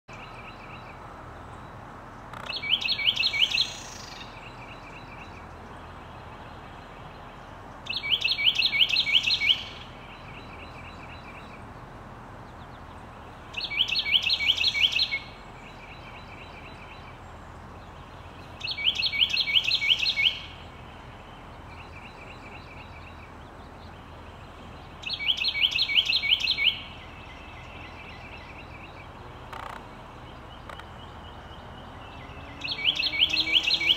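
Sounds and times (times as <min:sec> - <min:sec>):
wren singing rolling song: 0:00.1 - 0:33.9.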